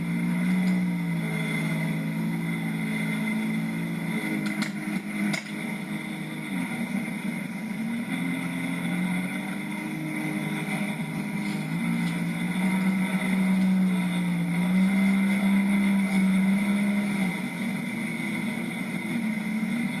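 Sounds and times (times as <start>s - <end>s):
jet ski engine running: 0.0s - 20.0s.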